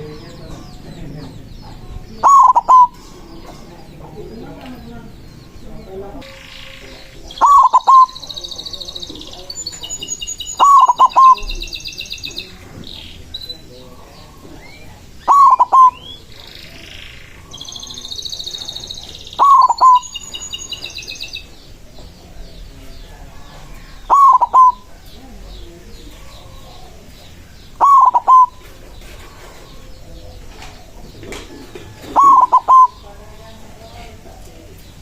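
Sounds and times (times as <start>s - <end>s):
dove cooing: 0.0s - 34.8s
small birds chirping: 0.0s - 35.0s.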